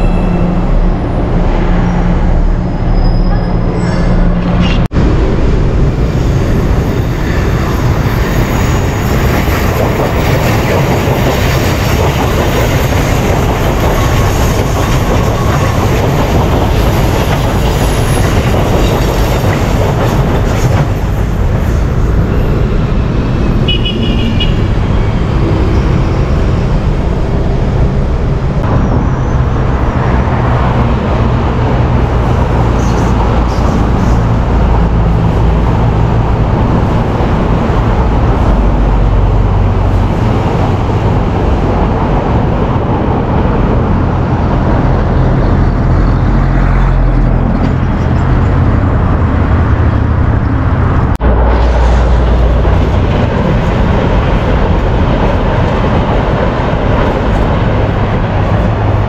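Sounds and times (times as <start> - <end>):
electric train on rails: 0.0 - 59.0.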